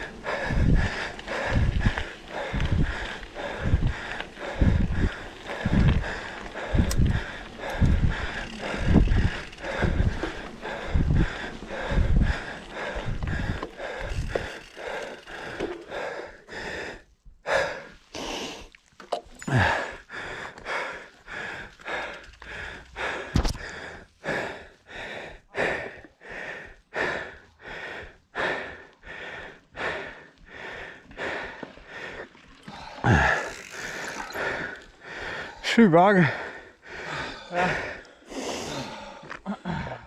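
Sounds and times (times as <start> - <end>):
person panting hard: 0.0 - 18.7, 19.4 - 40.0.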